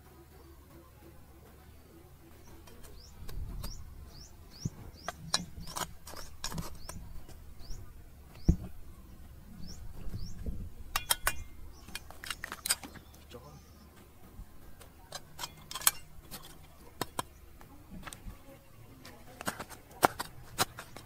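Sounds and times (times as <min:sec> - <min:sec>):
small bird chirping: 0:01.7 - 0:19.0.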